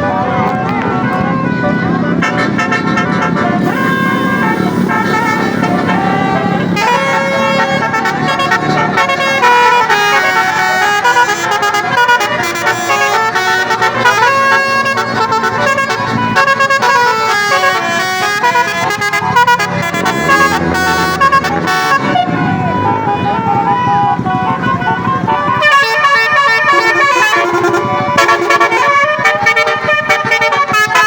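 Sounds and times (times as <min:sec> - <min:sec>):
bus engine: 0:00.0 - 0:31.0
musical air horn melody: 0:00.0 - 0:31.0.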